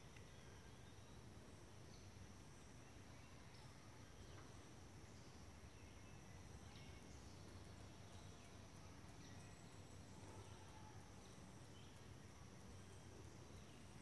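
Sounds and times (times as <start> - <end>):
faint chirps: 0.0 - 14.0
insects droning: 0.0 - 14.0.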